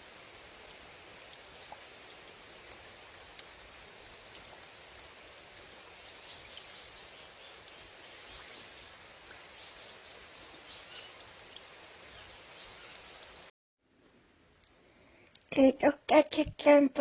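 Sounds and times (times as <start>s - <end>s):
faint natural ambience hiss: 0.0s - 17.0s.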